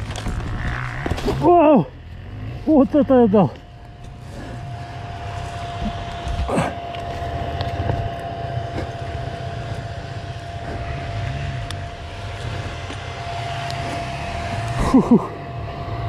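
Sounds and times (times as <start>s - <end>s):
motorcycle engine running: 0.0s - 16.0s
thin steady whine: 0.0s - 16.0s.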